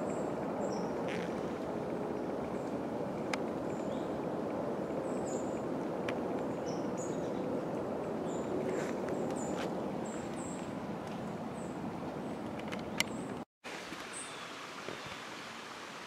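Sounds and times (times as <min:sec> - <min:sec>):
steady rushing noise: 0:00.0 - 0:13.4.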